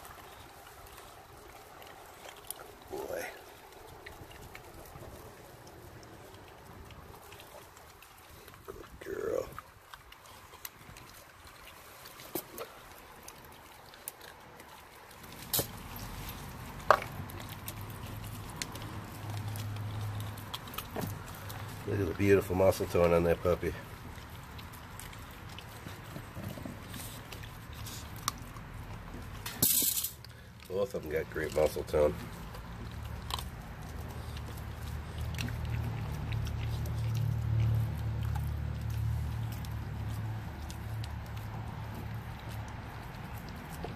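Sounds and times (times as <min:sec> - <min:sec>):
teeth clicking on bone: 0:00.0 - 0:29.6, 0:30.2 - 0:43.9
puppy chewing and crunching: 0:00.0 - 0:43.9.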